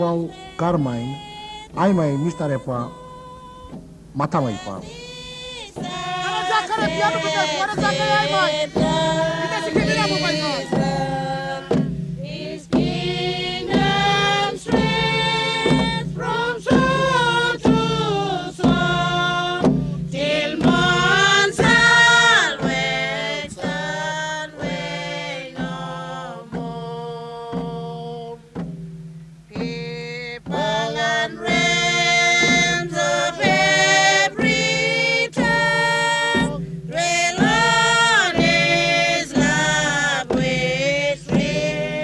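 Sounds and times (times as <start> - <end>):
group of voices singing a hymn: 0.0 - 28.7, 29.5 - 42.0.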